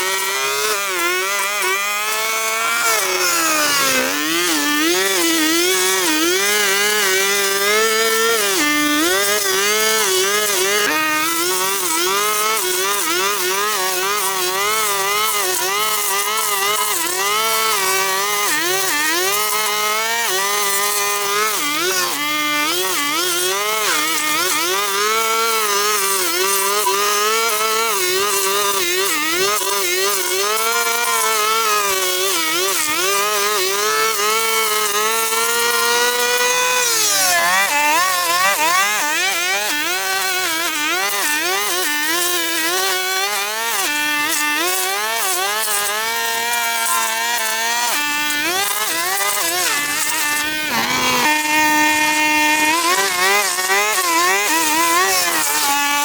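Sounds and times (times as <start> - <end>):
small petrol engine running: 0.0 - 56.0.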